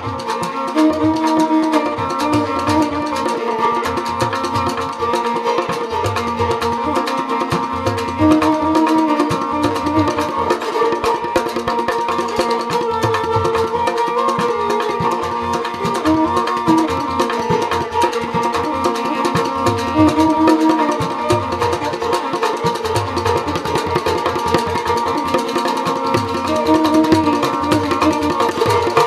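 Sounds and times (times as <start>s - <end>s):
bowed string melody: 0.0s - 29.0s.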